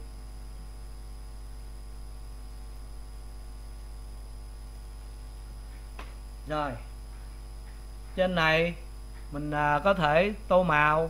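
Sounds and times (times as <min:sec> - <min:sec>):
electrical mains hum: 0:00.0 - 0:11.0
faint high whine and hiss: 0:00.0 - 0:11.0.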